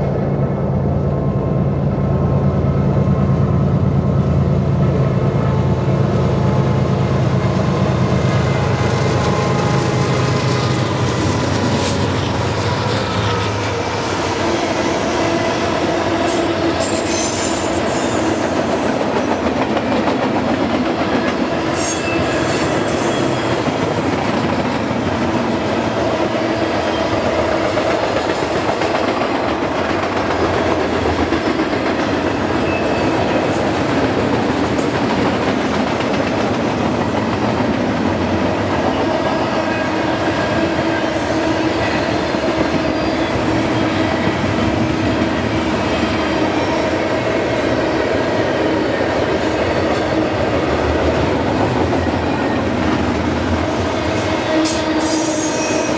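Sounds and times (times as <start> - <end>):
diesel locomotives running hard: 0.0 - 55.9.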